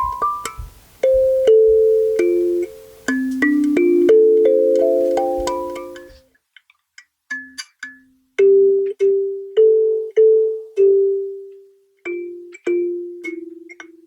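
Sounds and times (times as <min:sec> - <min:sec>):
kalimba plucked melody: 0:00.0 - 0:06.1, 0:08.4 - 0:14.0.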